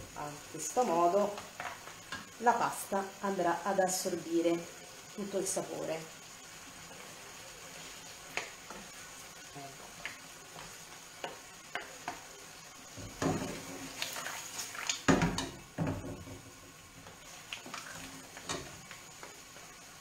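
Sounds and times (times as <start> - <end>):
sauce sizzling in a pan: 0.0 - 20.0.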